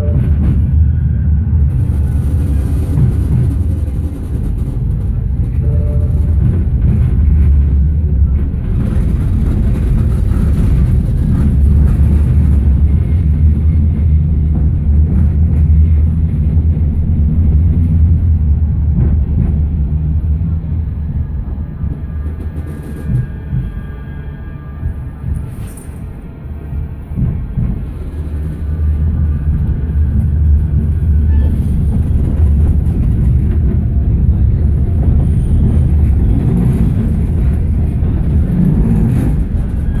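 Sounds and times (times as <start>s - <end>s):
tram wheels rumbling: 0.0s - 40.0s.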